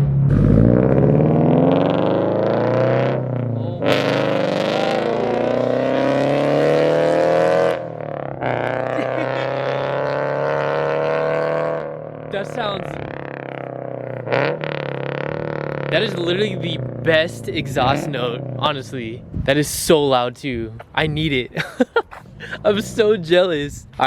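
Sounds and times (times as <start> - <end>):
car engine revving: 0.0 - 19.5, 22.1 - 24.0.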